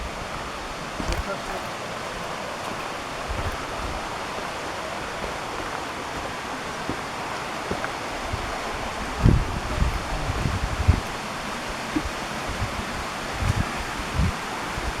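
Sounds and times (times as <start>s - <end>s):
low thumps: 0.0s - 15.0s
waterfall rushing: 0.0s - 15.0s.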